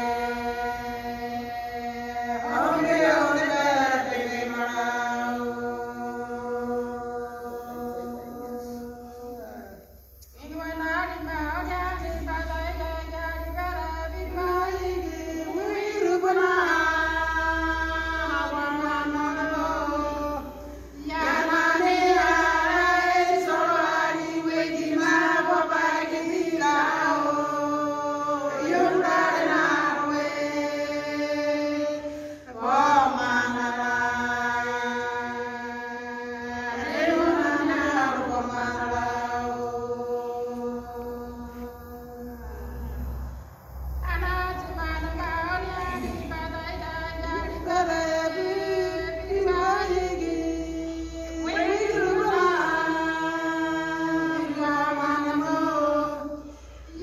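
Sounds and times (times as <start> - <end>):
women singing together: 0.0 - 57.0.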